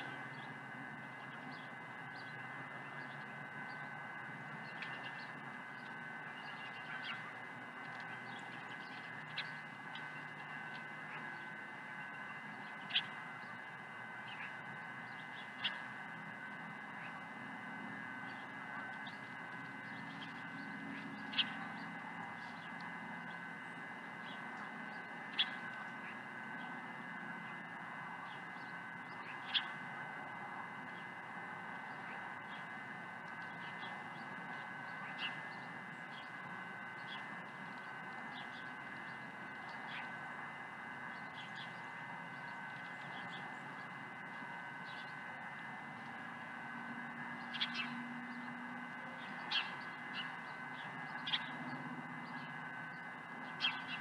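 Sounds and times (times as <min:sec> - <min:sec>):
birds calling: 0:00.0 - 0:54.0
steady outdoor hiss: 0:00.0 - 0:54.0.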